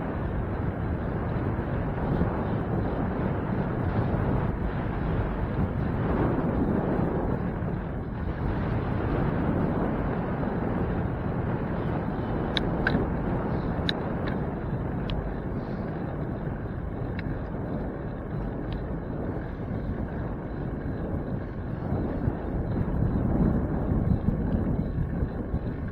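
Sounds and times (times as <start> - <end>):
wind rumbling on microphone: 0.0 - 25.9.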